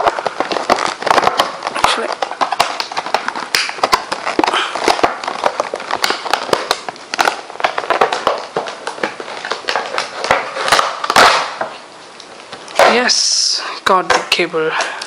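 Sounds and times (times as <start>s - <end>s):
packaging rustling and crinkling: 0.0s - 13.1s.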